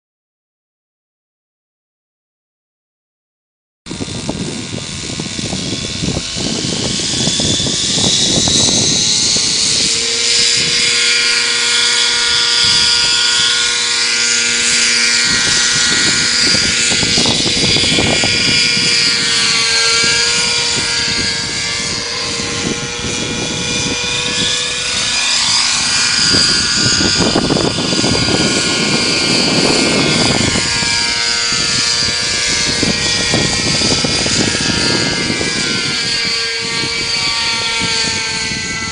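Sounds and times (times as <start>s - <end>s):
model helicopter engine whine: 3.9s - 38.9s.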